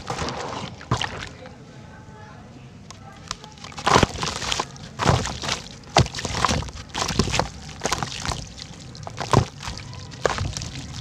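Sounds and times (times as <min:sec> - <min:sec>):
chunks plopping into water: 0:00.0 - 0:01.5, 0:03.2 - 0:11.0.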